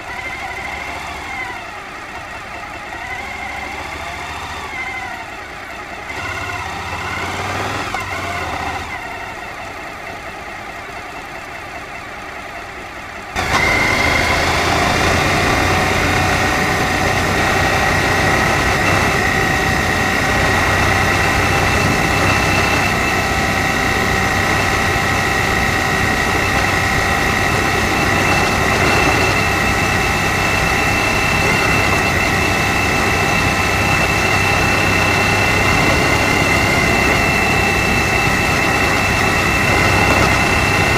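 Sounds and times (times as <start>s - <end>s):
wind and road noise: 0.0s - 10.4s, 13.4s - 40.9s
motorcycle engine running: 0.0s - 40.9s.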